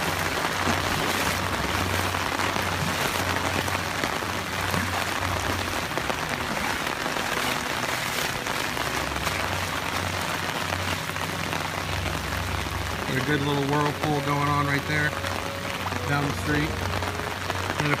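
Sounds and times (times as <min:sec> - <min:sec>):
heavy rain on pavement: 0:00.0 - 0:18.0.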